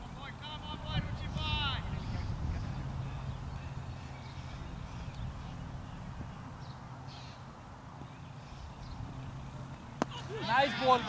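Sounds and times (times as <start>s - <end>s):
low steady hum: 0.0s - 11.0s
faint bird calls: 1.8s - 11.0s.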